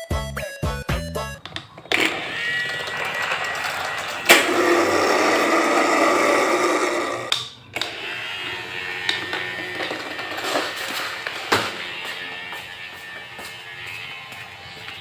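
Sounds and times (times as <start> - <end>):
small electric motor whirring: 1.7 - 15.0.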